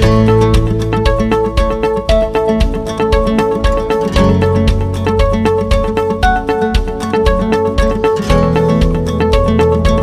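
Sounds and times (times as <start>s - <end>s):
bass line: 0.0s - 10.0s
plucked string instrument: 0.0s - 10.0s.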